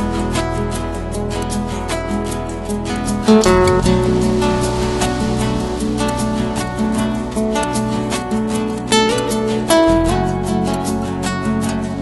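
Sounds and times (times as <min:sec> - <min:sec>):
plucked acoustic guitar music: 0:00.0 - 0:12.0.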